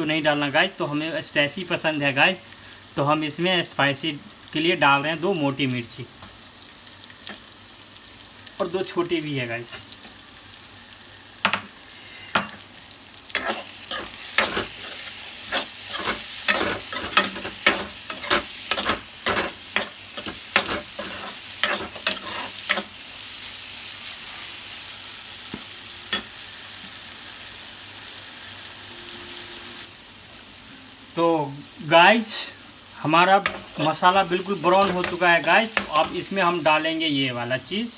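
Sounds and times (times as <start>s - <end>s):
masala sizzling in hot oil: 0.0s - 37.9s.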